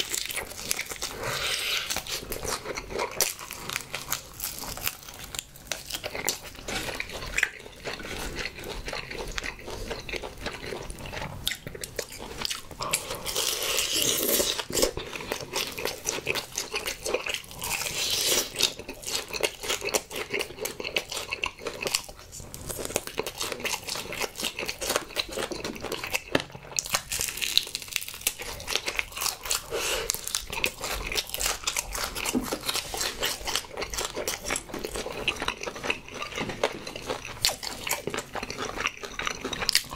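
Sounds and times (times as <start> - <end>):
biting and chewing chicken: 0.0 - 39.9.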